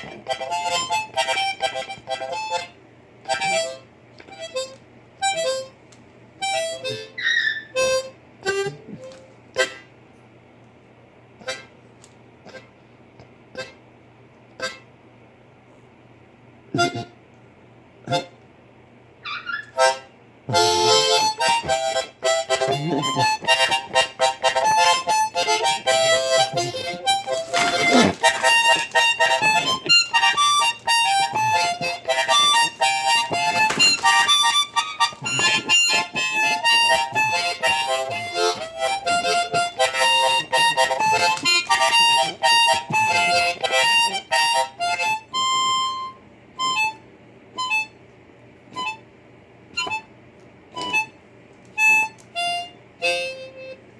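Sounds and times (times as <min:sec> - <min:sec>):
blues harmonica: 0:00.0 - 0:05.8, 0:06.4 - 0:09.9, 0:11.4 - 0:11.7, 0:14.6 - 0:14.9, 0:16.7 - 0:17.2, 0:18.1 - 0:18.4, 0:19.2 - 0:48.0, 0:48.7 - 0:49.1, 0:49.7 - 0:51.2, 0:51.8 - 0:53.9.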